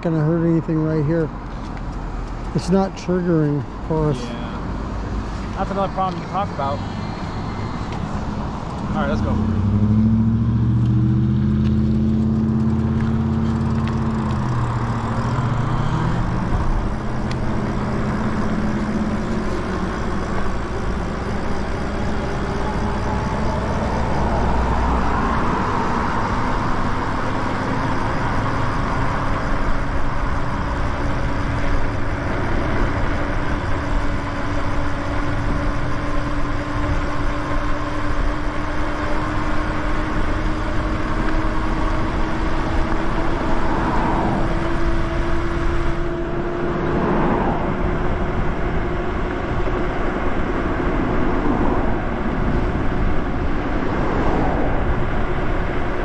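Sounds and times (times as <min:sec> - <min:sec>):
motor vehicle engine: 0:00.0 - 0:56.0
road noise: 0:00.0 - 0:56.0
electric motor hum rising in pitch: 0:02.0 - 0:56.0.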